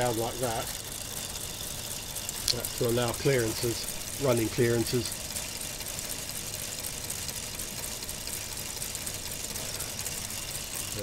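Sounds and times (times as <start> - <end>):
toy motor whirring: 0.0 - 11.0.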